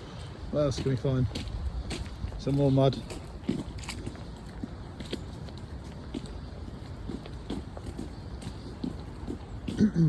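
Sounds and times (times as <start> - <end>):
wind rumble on microphone: 0.0 - 9.9
boots squelching through mud: 0.0 - 10.0.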